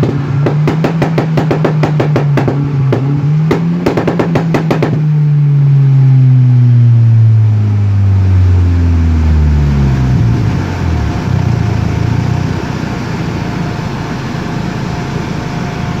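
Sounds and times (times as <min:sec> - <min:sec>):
car engine and exhaust rumble: 0:00.0 - 0:16.0.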